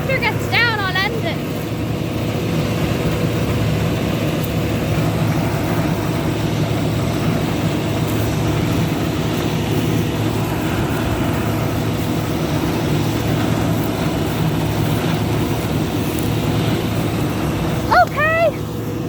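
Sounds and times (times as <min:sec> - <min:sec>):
combine harvester running: 0:00.0 - 0:19.0.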